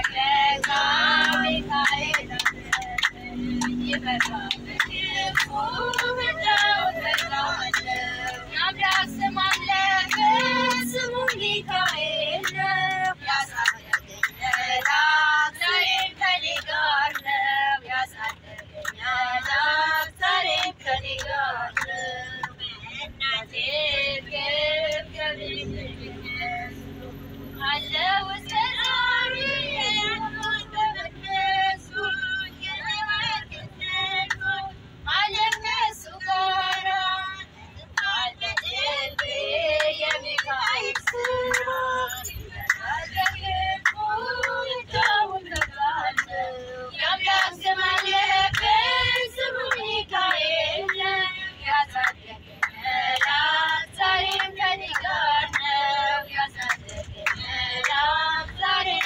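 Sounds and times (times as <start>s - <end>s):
low steady rumble: 0.0s - 59.0s
woman singing with vibrato: 0.0s - 59.0s.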